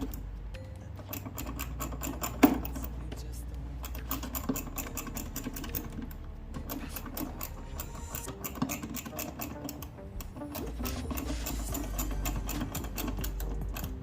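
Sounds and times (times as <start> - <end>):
hand ratchet clicking: 0.0 - 3.0, 3.8 - 14.0.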